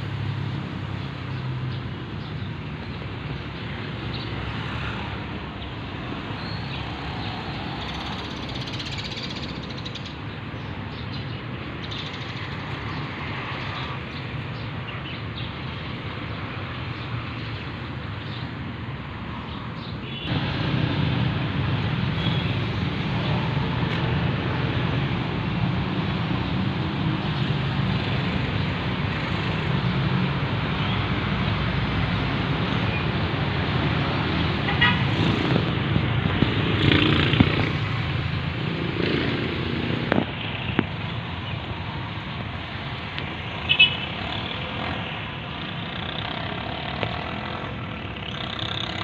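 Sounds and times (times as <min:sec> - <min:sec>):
road traffic noise: 0:00.0 - 0:49.0.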